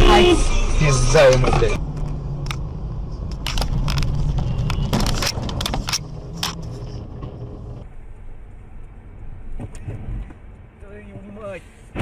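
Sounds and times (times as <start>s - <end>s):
car engine humming: 0.0s - 10.8s.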